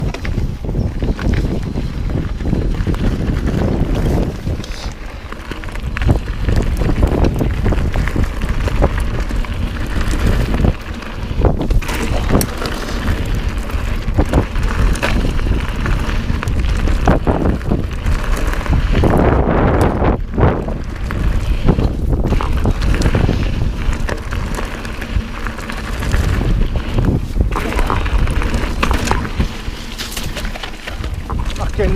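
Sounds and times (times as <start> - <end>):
bike knocks and rattles: 0.0 - 31.9
wind buffeting microphone: 0.0 - 31.9.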